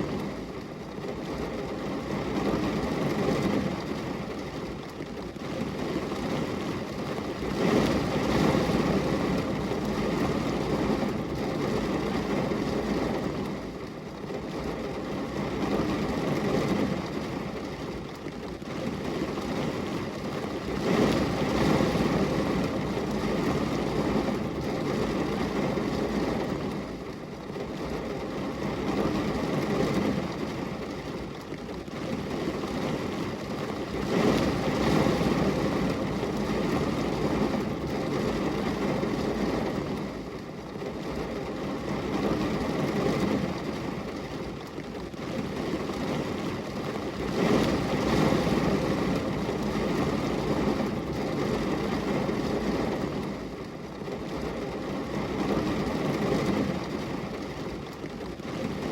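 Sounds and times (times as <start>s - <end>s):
rain pattering on a window: 0.0s - 58.9s.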